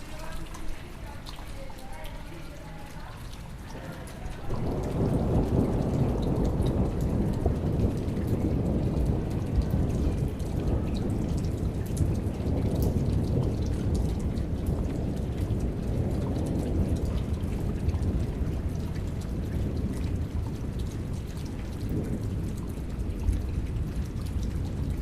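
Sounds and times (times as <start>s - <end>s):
heavy rain falling: 0.0s - 25.0s
thunder rumbling: 2.3s - 25.0s.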